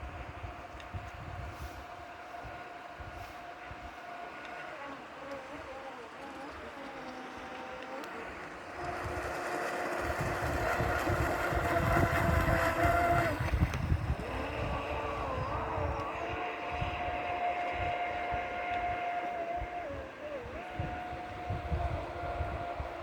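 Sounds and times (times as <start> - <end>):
electric motors whining: 0.0 - 23.0
low uneven rumble: 0.0 - 23.0.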